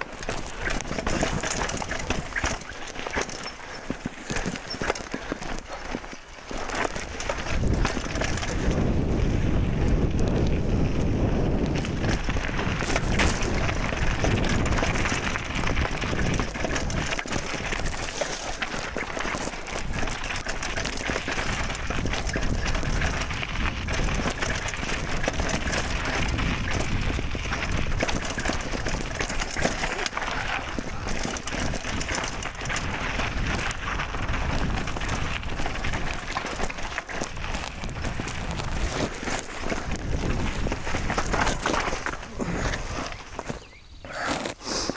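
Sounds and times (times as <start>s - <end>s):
bike rattling and clicking: 0.0s - 43.8s
tyre and wind rush: 0.0s - 44.9s.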